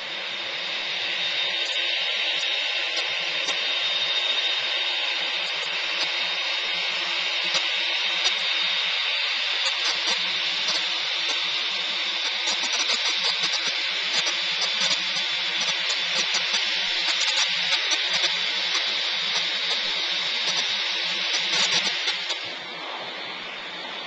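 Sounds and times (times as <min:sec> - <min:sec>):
jet engines whining: 0:00.0 - 0:24.0
rushing hiss: 0:00.0 - 0:24.0.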